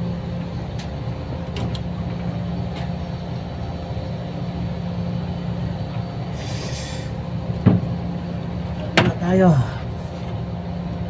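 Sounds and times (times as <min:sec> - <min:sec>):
air conditioning machinery hum: 0:00.0 - 0:11.0.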